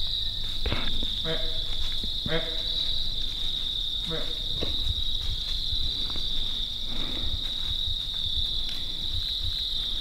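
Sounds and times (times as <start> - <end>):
high insect trill: 0.0 - 10.0.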